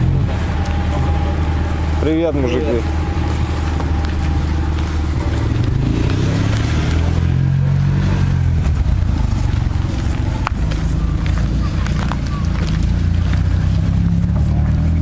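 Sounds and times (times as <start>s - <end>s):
road repair machine engine: 0.0s - 15.0s.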